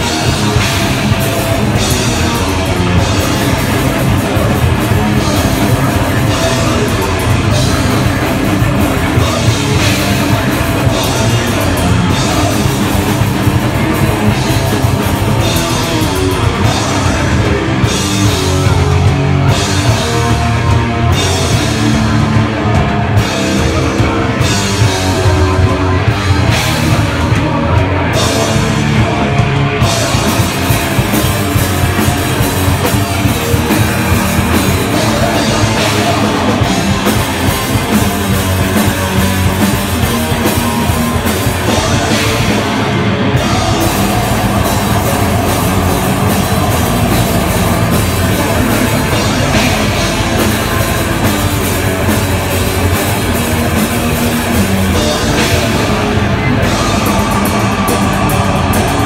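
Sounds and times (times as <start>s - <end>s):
heavy rock band playing live: 0.0s - 59.0s.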